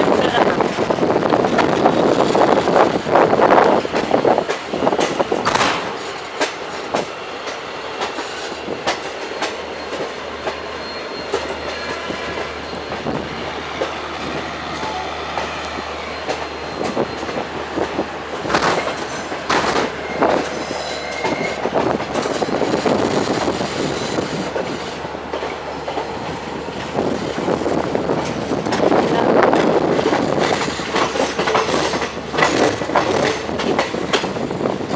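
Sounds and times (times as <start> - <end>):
train coaches rumbling: 0.0 - 34.9
wheels clacking over rail joints: 0.0 - 34.9.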